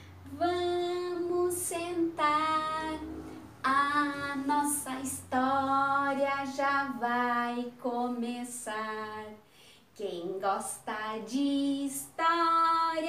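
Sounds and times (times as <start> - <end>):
woman singing: 0.2 - 13.0.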